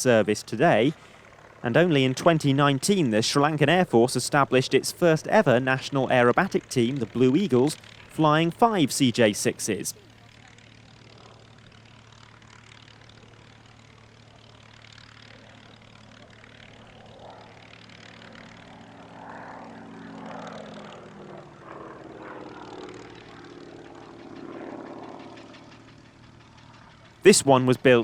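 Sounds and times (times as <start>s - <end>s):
propeller aircraft flying past: 0.0s - 28.0s.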